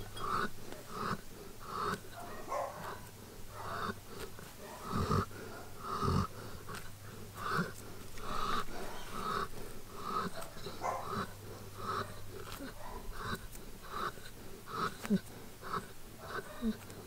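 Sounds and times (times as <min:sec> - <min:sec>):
dog breathing noisily: 0:00.0 - 0:17.0.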